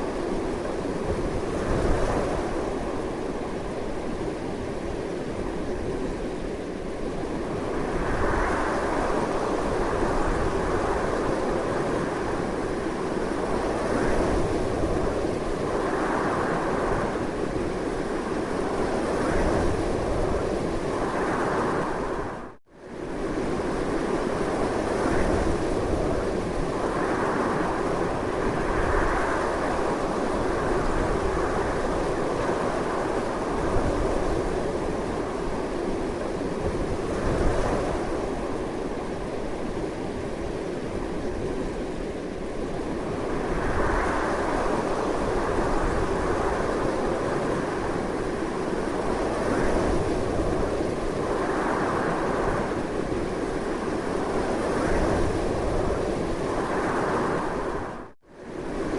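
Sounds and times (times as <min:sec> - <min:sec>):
strong wind gusting: 0:00.0 - 0:58.9.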